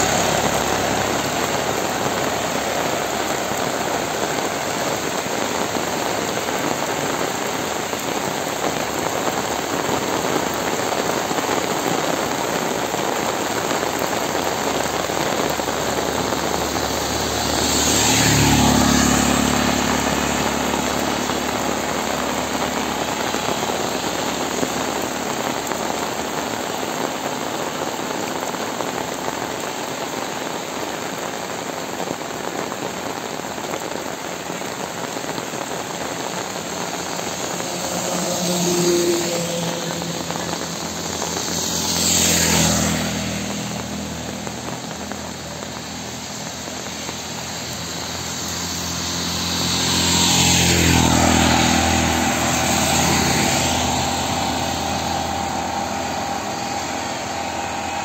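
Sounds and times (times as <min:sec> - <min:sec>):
motor vehicle passing: 0:00.0 - 0:28.1, 0:33.2 - 0:58.0
heavy rain falling: 0:00.0 - 0:58.0.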